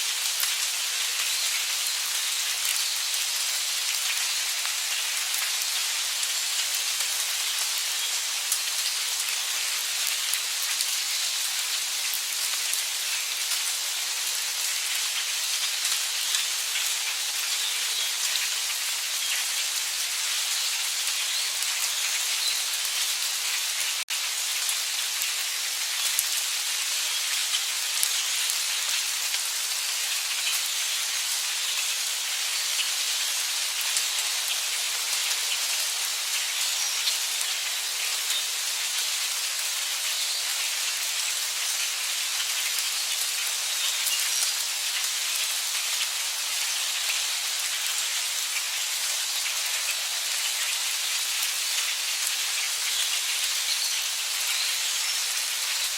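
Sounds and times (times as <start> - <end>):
heavy rain hiss: 0.0 - 55.9.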